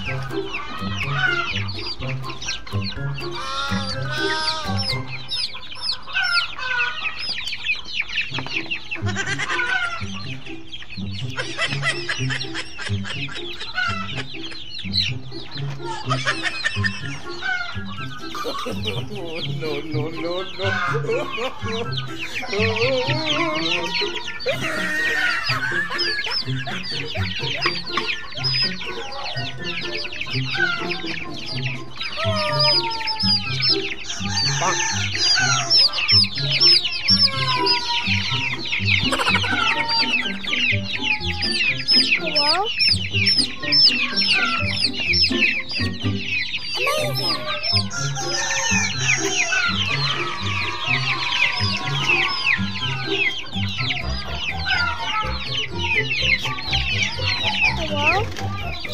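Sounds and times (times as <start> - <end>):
background music with bass line: 0.0 - 6.7, 7.9 - 58.9
chicks cheeping: 0.0 - 58.9.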